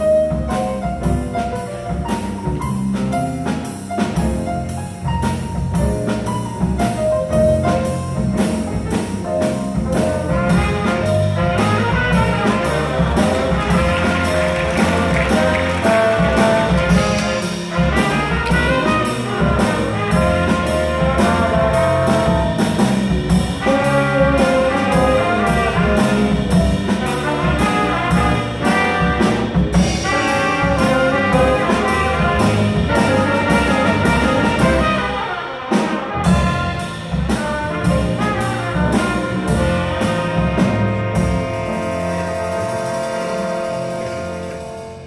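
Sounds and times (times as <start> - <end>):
live jazz combo: 0.0 - 45.0.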